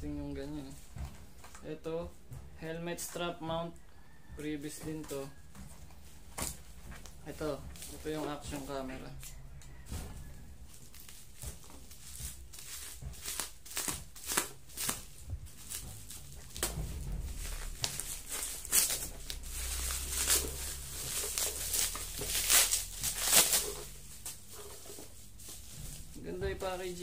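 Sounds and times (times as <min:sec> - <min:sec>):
bubble wrap crinkling and crackling: 0:04.9 - 0:27.0.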